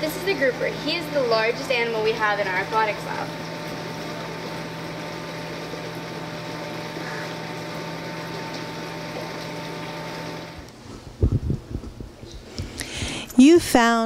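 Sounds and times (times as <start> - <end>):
aquarium pump hissing and humming: 0.0 - 14.0.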